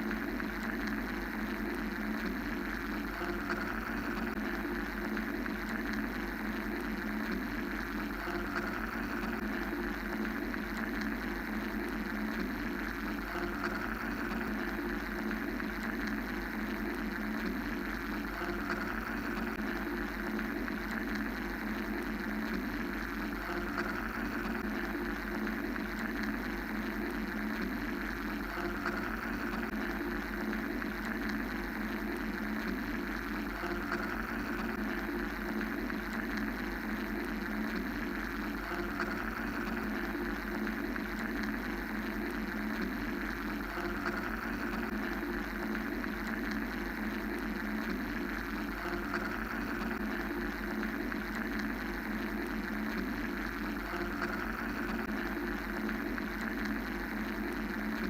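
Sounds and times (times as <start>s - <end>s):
mechanical white-noise drone: 0.0s - 58.0s.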